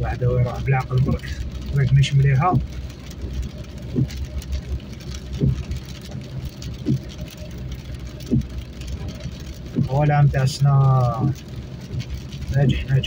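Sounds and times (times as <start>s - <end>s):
car engine and tyre rumble: 0.0s - 13.0s
heavy rain on glass: 0.0s - 13.0s
windshield wipers swiping: 0.0s - 13.0s.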